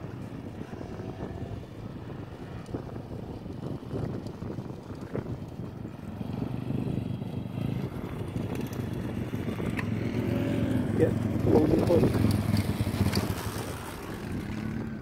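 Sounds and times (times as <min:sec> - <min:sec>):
motorbike engine running: 0:00.5 - 0:15.0.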